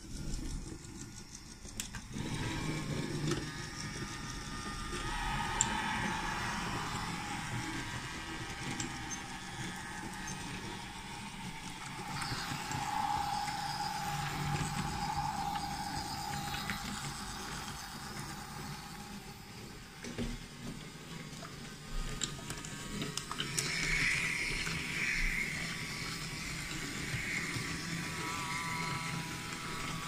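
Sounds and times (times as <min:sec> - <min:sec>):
toy train motors whirring: 0:00.0 - 0:30.0.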